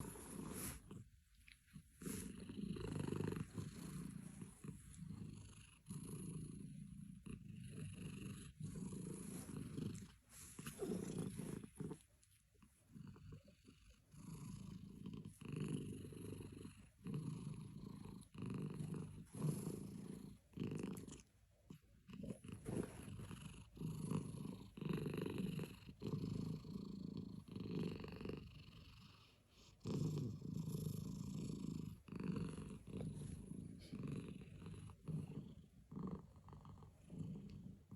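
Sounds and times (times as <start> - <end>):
cat purring: 0.0 - 37.9.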